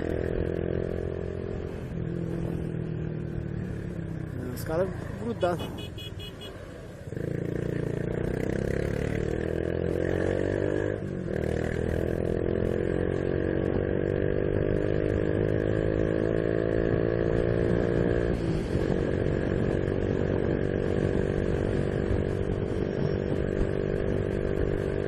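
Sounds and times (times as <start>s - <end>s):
motorcycle engine accelerating: 0.0s - 6.1s, 6.8s - 25.0s
wind and road noise: 0.0s - 25.0s.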